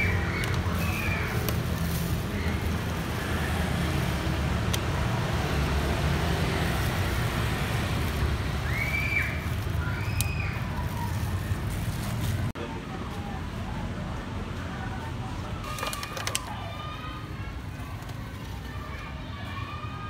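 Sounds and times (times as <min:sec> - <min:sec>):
rumble of passing traffic: 0:00.0 - 0:20.0.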